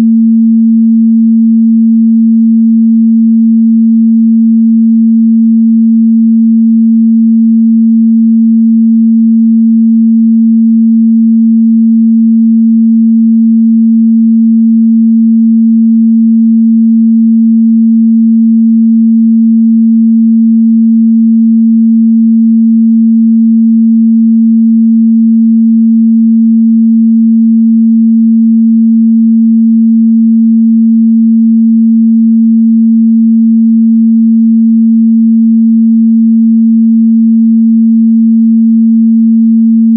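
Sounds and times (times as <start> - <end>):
steady sine wave test tone: 0.0 - 39.9.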